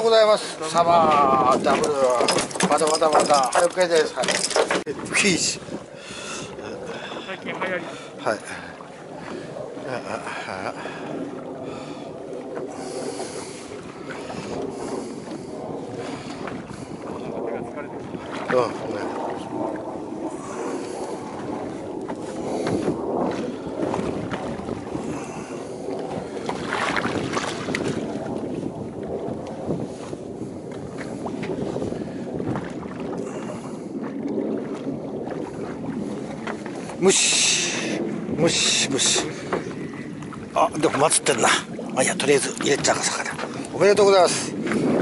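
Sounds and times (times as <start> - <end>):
boat engine droning: 0.0 - 45.0
sea noise: 0.0 - 45.0
wind: 0.0 - 45.0.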